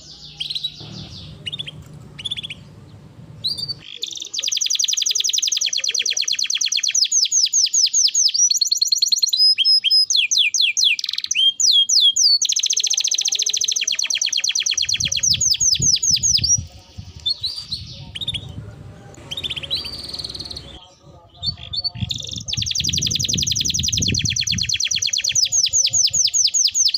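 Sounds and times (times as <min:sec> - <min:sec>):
canary singing trills: 0:00.0 - 0:26.9.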